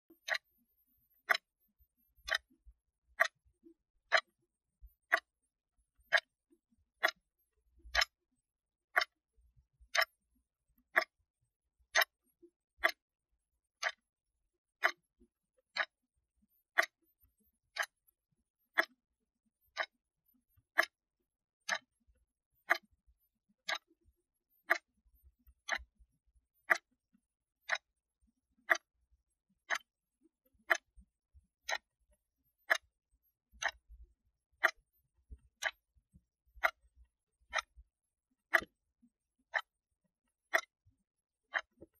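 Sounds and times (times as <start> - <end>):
wristwatch ticking: 0.0 - 14.1, 14.7 - 41.9.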